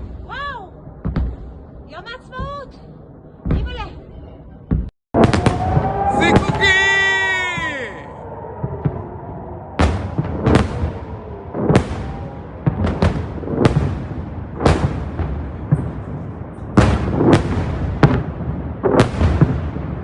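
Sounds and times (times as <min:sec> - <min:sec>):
explosions echoing: 0:00.0 - 0:20.0.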